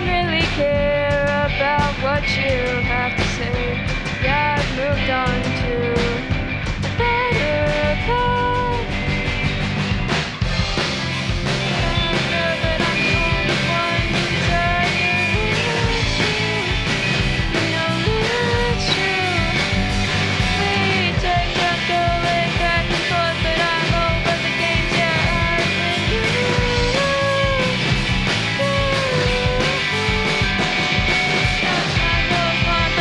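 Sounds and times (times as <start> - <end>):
bass guitar: 0.0 - 33.0
drum kit: 0.0 - 33.0
lead electric guitar bending notes: 2.7 - 33.0.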